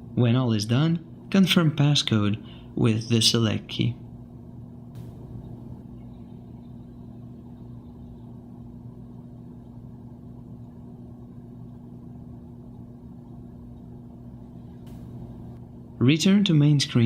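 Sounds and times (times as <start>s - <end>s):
steady two-tone hum: 0.0s - 17.0s.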